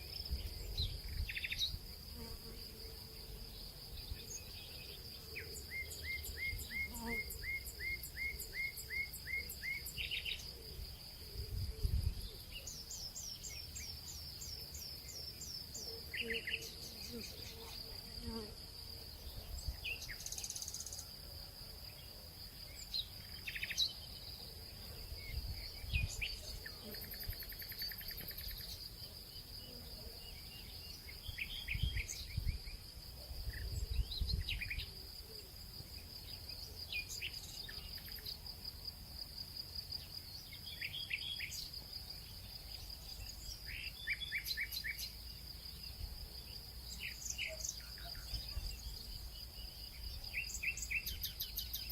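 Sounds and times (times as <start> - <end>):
insect trill: 0.0 - 51.9.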